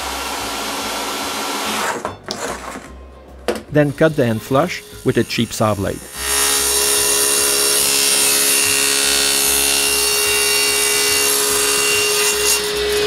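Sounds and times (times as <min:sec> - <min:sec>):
power saw cutting with whine: 0:00.0 - 0:02.1, 0:03.9 - 0:13.0.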